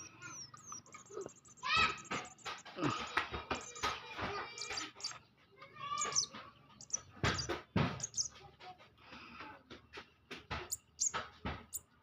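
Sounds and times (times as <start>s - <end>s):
baby birds begging chirps: 0.0s - 9.2s, 9.8s - 12.0s.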